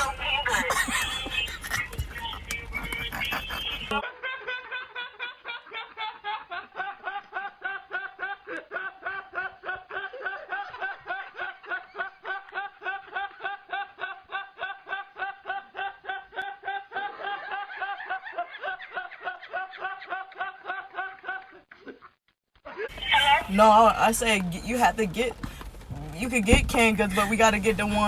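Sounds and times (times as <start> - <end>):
rapid snickering laugh: 0.0 - 23.0.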